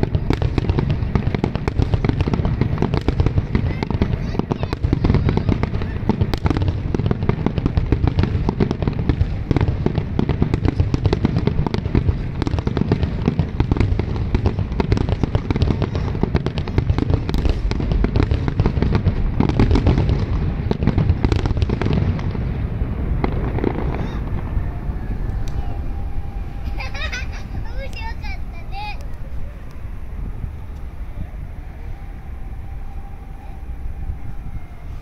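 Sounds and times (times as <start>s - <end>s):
fireworks booming and popping: 0.0s - 35.0s.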